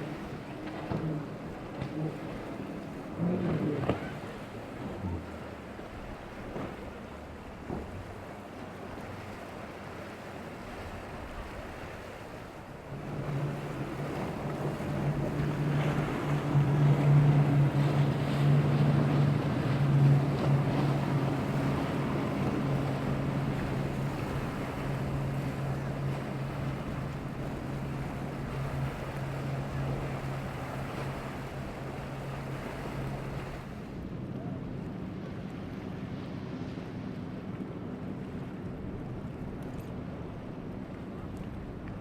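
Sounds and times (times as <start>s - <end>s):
boat engine droning: 0.0s - 42.0s
surf: 0.0s - 42.0s
wind: 0.0s - 42.0s.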